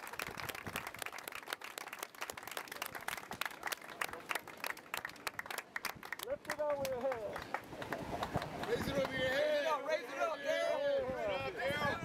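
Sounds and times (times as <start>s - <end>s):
small crowd applauding: 0.0s - 9.9s.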